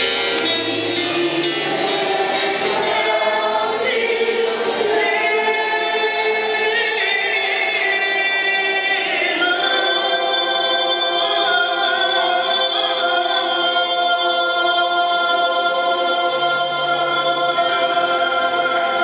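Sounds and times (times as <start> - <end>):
mixed choir singing: 0.4 - 19.0.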